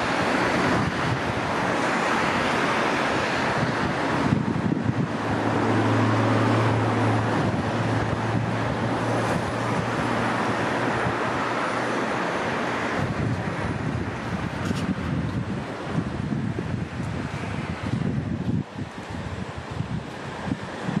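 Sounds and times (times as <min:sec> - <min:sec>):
highway traffic rushing: 0:00.0 - 0:21.0
low engine hum: 0:00.0 - 0:21.0.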